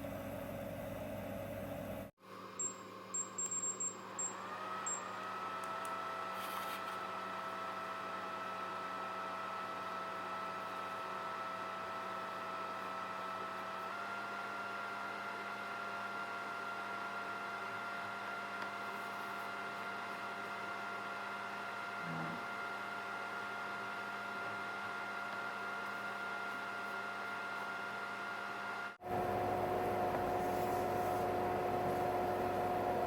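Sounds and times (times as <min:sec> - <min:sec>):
kitchen appliance humming and whining: 0:00.0 - 0:33.0.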